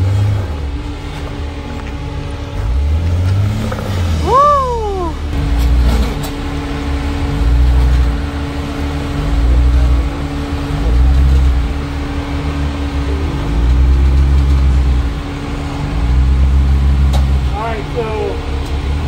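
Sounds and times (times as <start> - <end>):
off-road vehicle engine surging: 0.0 - 19.0.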